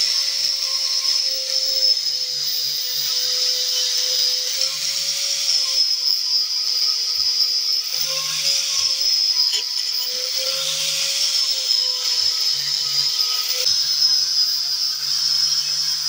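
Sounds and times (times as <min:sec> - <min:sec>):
angle grinder grinding steel: 0:00.0 - 0:16.0.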